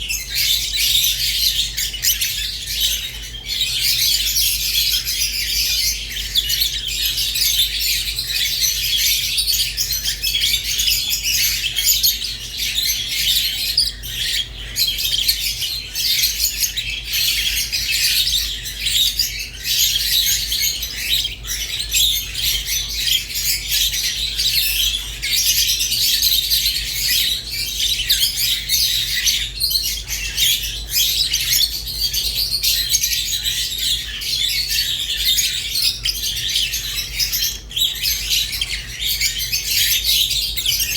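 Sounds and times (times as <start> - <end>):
lovebirds chirping and chattering: 0.0 - 40.9.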